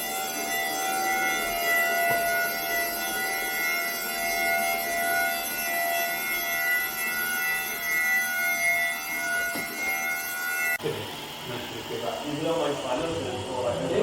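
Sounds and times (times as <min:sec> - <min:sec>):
robot vacuum motor whine: 0:00.0 - 0:14.0.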